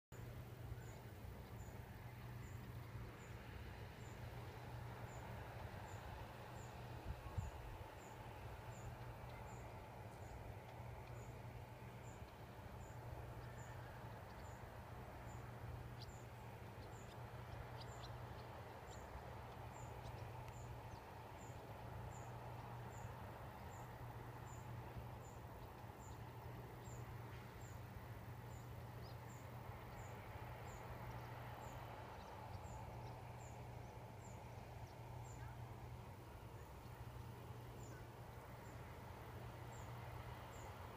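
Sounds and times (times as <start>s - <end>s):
soft wind: 0.1s - 40.9s
low hum: 0.2s - 40.9s.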